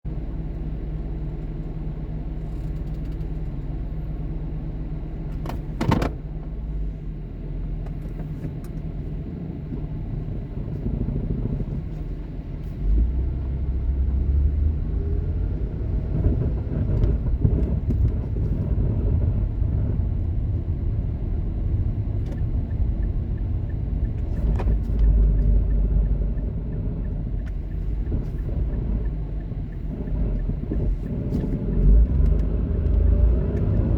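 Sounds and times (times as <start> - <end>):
car engine running: 0.1 - 33.9
car pulling away and driving: 0.1 - 33.9.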